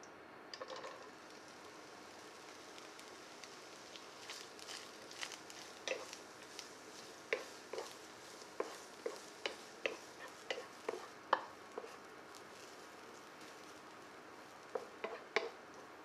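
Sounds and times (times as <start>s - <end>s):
wooden spatula scraping frying pan: 0.6s - 15.6s.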